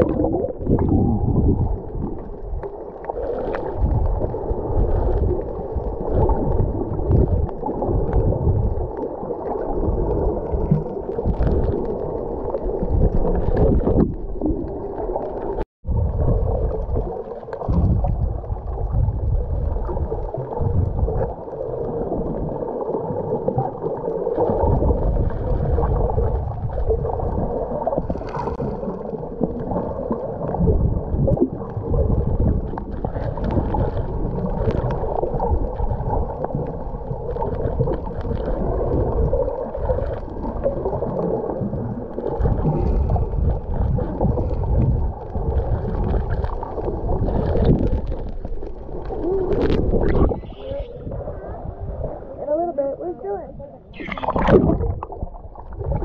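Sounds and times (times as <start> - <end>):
underwater rushing water: 0.0 - 56.0.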